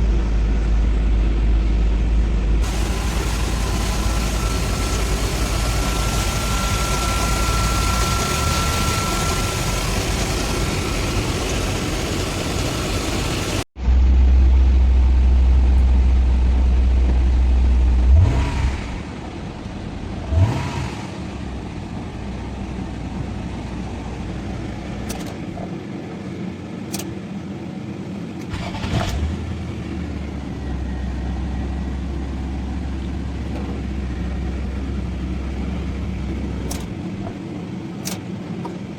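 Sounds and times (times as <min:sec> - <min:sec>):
car engine running and revving: 0:00.0 - 0:27.1, 0:27.9 - 0:38.9.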